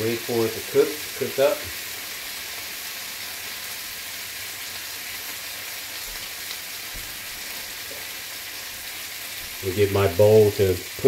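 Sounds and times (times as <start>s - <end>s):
bacon sizzling in a skillet: 0.0s - 11.0s.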